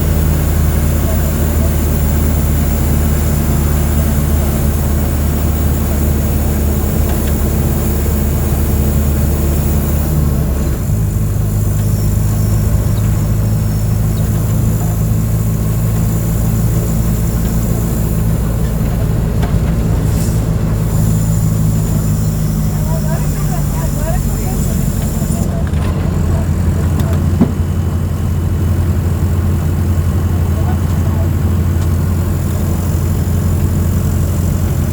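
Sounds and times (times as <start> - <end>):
bus diesel engine running: 0.0 - 34.9.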